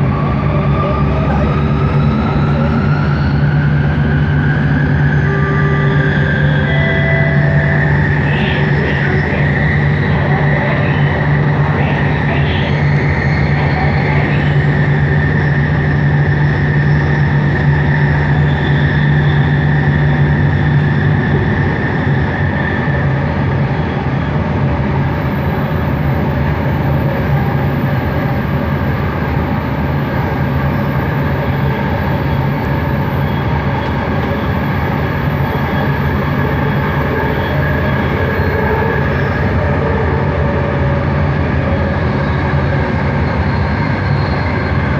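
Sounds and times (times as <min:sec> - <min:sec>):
high motor whine: 0:00.0 - 0:44.9
train running noise: 0:00.0 - 0:44.9.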